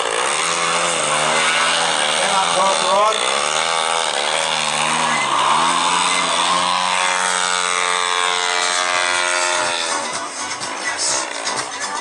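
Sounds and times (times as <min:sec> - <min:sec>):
model plane engine running hard: 0:00.0 - 0:12.0.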